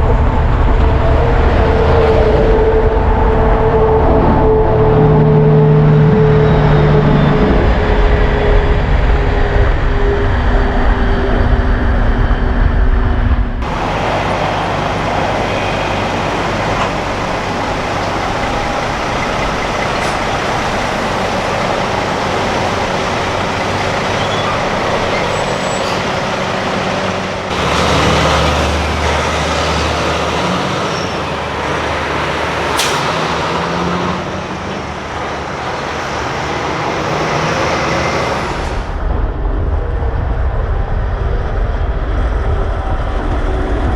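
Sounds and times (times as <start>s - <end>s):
heavy trucks driving past: 0.0s - 9.9s, 13.6s - 39.2s.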